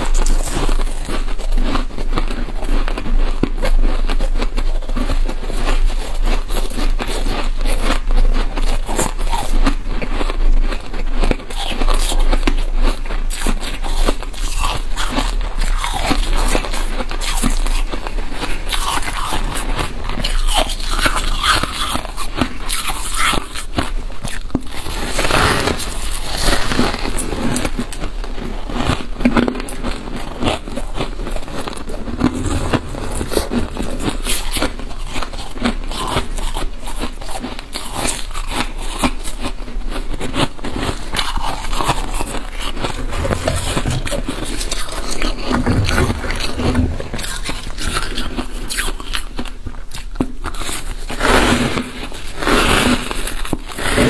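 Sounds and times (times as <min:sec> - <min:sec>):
frost being chewed crunching: 0:00.0 - 0:54.0.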